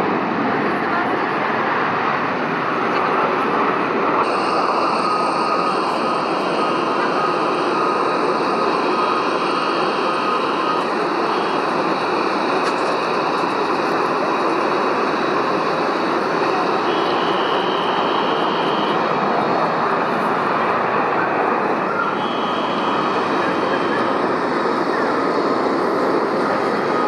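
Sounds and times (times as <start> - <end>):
jet engines rushing: 0.0 - 27.0
faint high whine: 2.7 - 27.0.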